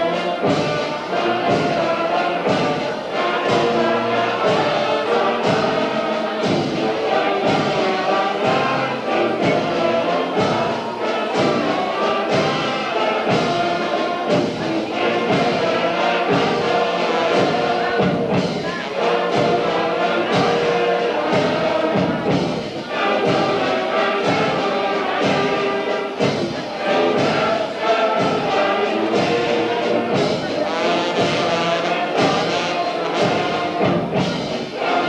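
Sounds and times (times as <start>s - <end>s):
steady drumbeat: 0.0s - 35.0s
wind band playing brass: 0.0s - 35.0s.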